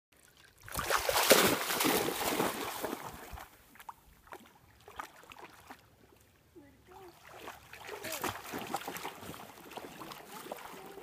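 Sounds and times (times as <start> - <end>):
dog splashing through water: 0.6 - 5.9, 7.0 - 11.0.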